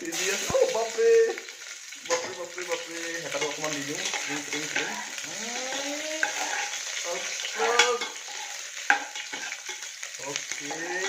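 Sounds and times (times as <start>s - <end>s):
onions sizzling in oil: 0.0s - 11.0s
spatula scraping a pan: 2.0s - 11.0s.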